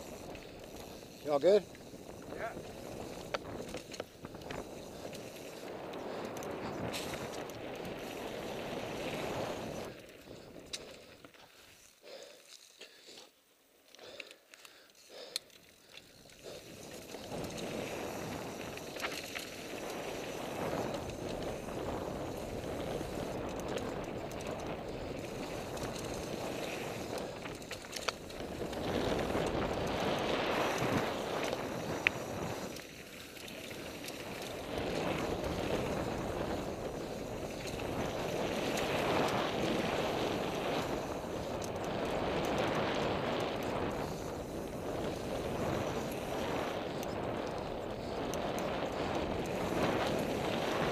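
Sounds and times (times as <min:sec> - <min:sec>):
wind rushing over microphone: 0:00.0 - 0:10.0, 0:16.4 - 0:32.8, 0:33.7 - 0:50.9
bike tyres rolling over dirt: 0:00.0 - 0:50.9
sharp clicks from bike: 0:00.0 - 0:50.9.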